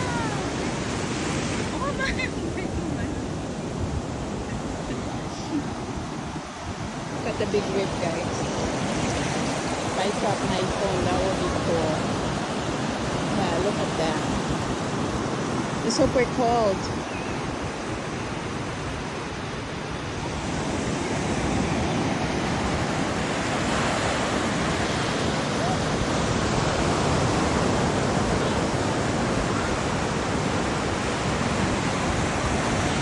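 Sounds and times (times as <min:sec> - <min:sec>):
waves breaking: 0:00.0 - 0:33.0
wind on microphone: 0:00.0 - 0:33.0.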